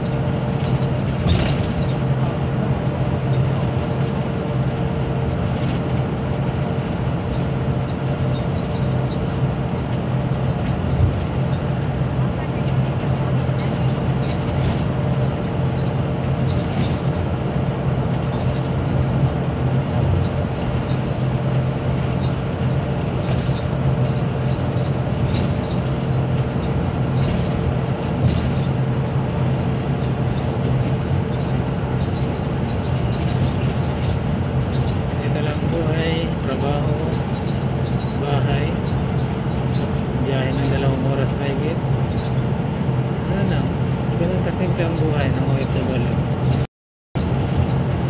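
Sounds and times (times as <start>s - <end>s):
engine drone and road noise: 0.0s - 48.0s
light rattles: 3.3s - 42.5s.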